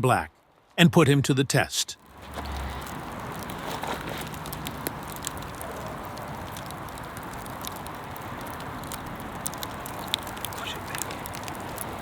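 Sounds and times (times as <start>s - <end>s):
open fire crackling: 2.0s - 12.0s.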